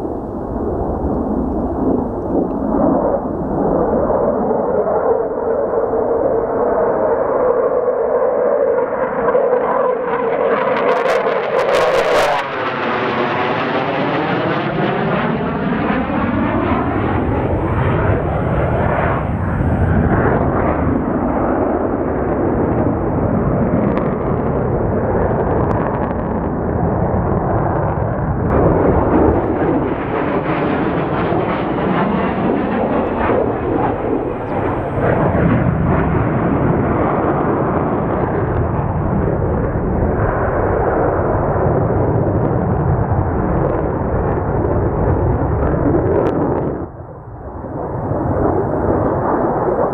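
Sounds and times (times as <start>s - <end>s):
jet roaring overhead: 0.0s - 49.9s.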